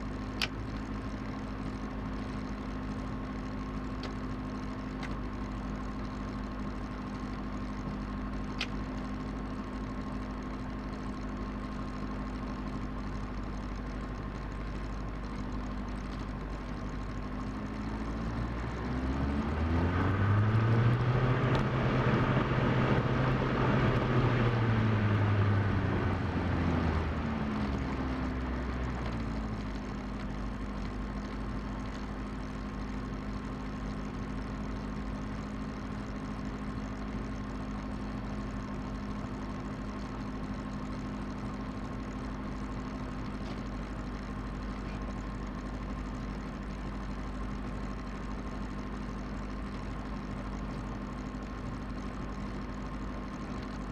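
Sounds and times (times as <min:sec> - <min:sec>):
aircraft engine and propeller: 0:00.0 - 0:53.9.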